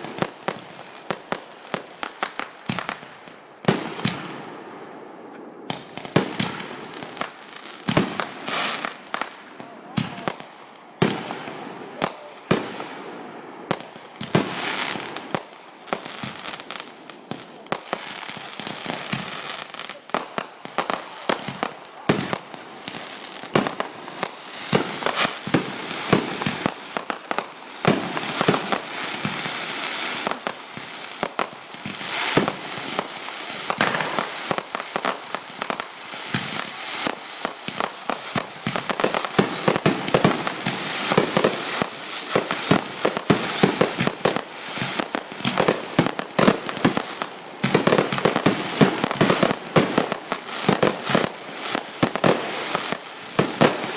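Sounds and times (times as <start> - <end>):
fireworks bangs and pops: 0.0 - 4.4, 5.7 - 13.1, 13.7 - 53.9
fireworks crackling: 0.0 - 53.9.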